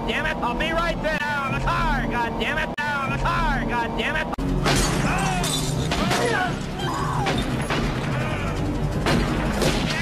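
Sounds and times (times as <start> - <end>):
dramatic film music: 0.0 - 10.0.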